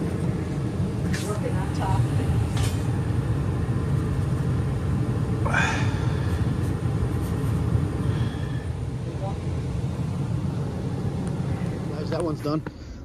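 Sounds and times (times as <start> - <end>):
gas furnace and blower rumbling: 0.0 - 13.0.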